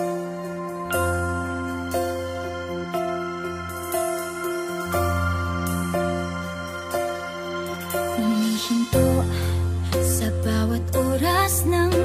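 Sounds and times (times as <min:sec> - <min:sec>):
slow ballad sustained chords: 0:00.0 - 0:12.0.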